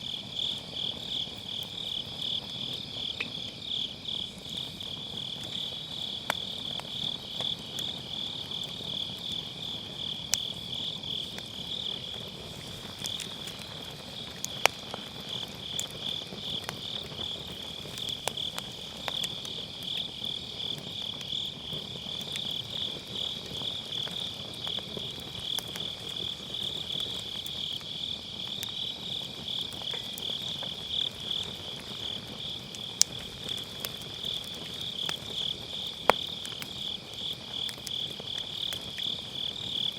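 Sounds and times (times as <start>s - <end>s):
firewood crackling: 0.0s - 39.9s
insects chirping: 0.0s - 39.9s.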